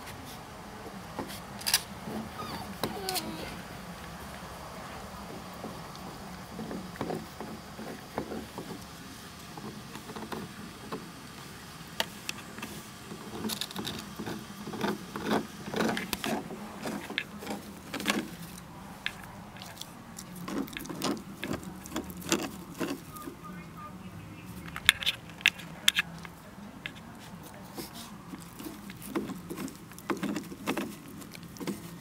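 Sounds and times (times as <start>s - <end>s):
puppy gnawing and scrabbling: 0.1s - 23.4s, 24.5s - 32.0s.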